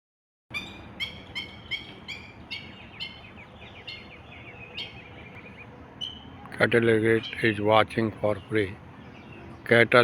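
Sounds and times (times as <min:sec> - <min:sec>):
bird yelping calls: 0:00.5 - 0:09.8.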